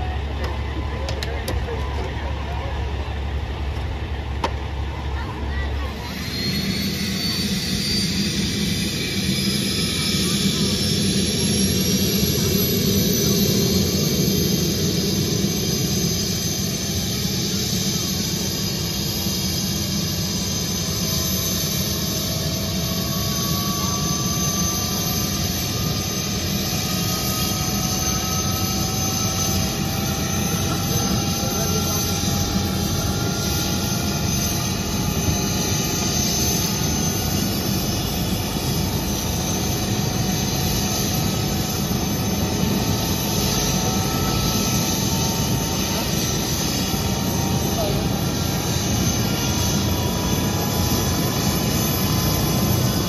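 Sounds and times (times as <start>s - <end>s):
helicopter turbine and rotor: 0.0s - 53.0s
high engine whine rising: 0.0s - 53.0s.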